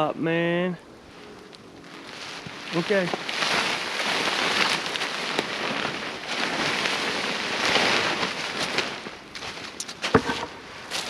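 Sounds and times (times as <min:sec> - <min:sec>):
tarp flapping in wind: 0:00.9 - 0:11.0.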